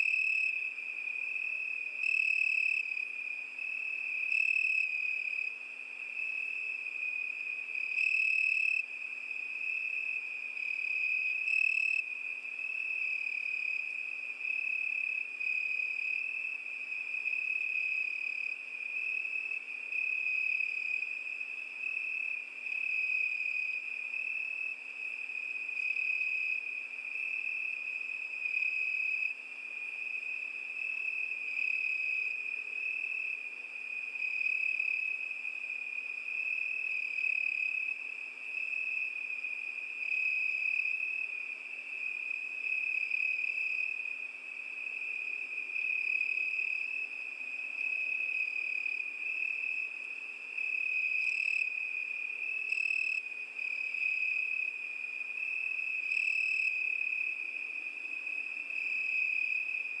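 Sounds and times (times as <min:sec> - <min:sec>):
cricket trilling: 0:09.5 - 1:00.0.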